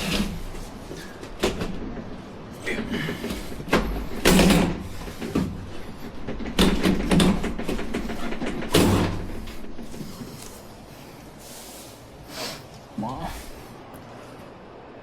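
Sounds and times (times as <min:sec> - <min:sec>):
sliding glass door scraping: 0:00.0 - 0:12.0.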